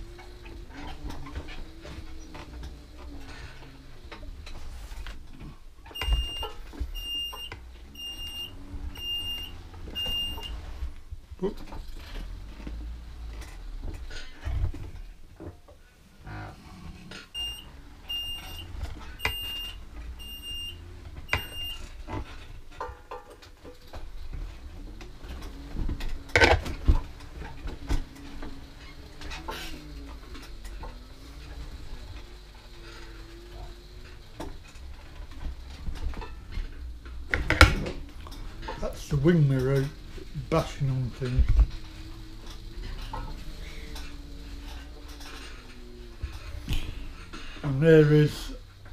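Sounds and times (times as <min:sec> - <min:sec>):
mobility scooter rumbling and rattling: 0:00.0 - 0:48.9.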